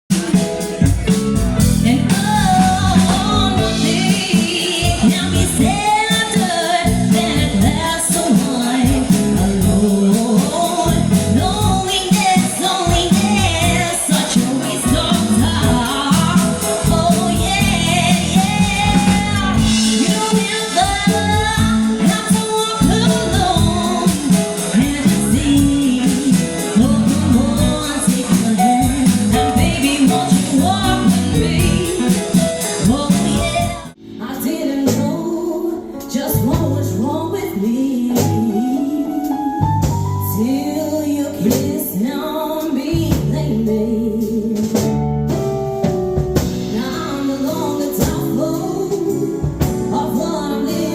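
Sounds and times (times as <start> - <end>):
guitar-led song: 0.1 - 50.9
woman singing with band: 1.6 - 45.0, 46.5 - 50.9.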